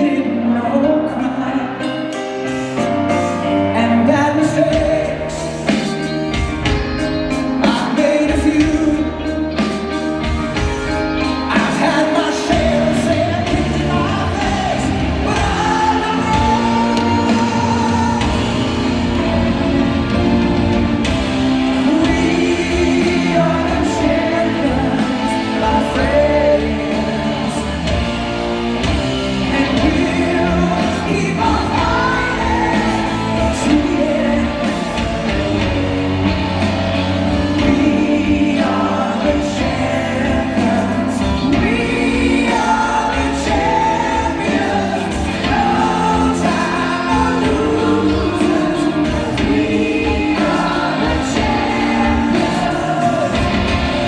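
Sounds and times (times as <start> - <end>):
live rock band playing: 0.0 - 54.0
man singing lead vocals: 0.0 - 54.0.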